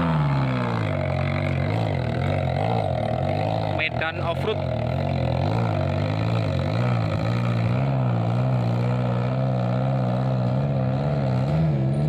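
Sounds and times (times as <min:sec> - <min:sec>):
pickup truck engine labouring: 0:00.0 - 0:12.0.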